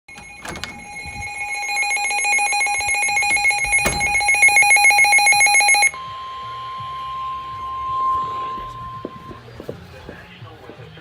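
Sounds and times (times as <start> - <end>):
fast electronic alarm beeping: 0.1 - 9.3.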